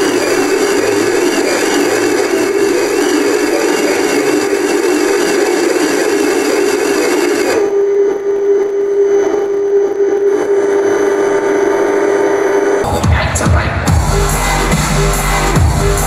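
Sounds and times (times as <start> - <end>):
electronic drone music: 0.0 - 16.0.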